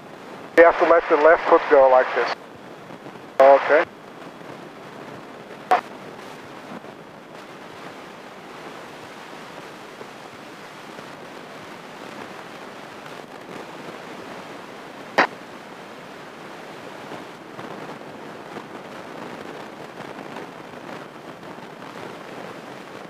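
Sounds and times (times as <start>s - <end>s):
airplane cabin noise: 0.4s - 23.0s.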